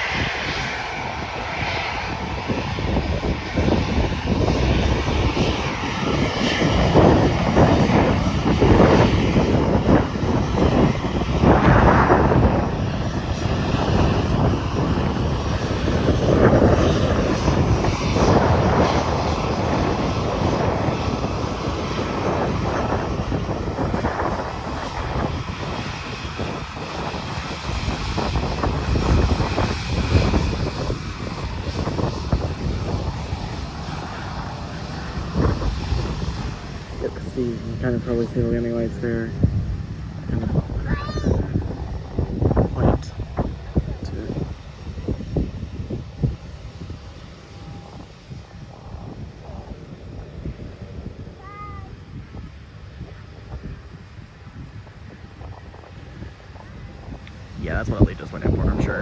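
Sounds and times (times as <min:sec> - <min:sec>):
airplane engines rumbling: 0:00.0 - 0:59.0
wind buffeting microphone: 0:00.0 - 0:59.0.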